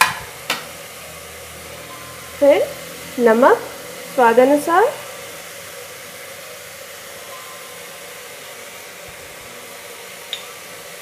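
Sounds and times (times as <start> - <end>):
vegetables frying in oil: 0.0 - 11.0.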